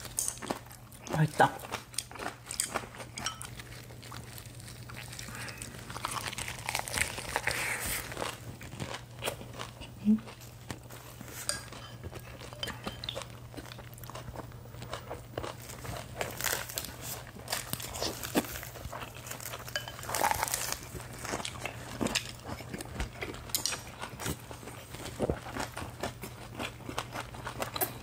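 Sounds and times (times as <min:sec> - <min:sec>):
crunching lettuce: 0:00.0 - 0:11.5, 0:12.2 - 0:28.0.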